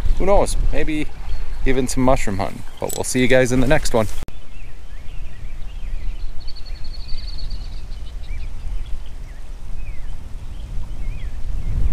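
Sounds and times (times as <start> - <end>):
birds chirping: 0.0 - 10.2
wind rumbling on microphone: 0.0 - 11.9.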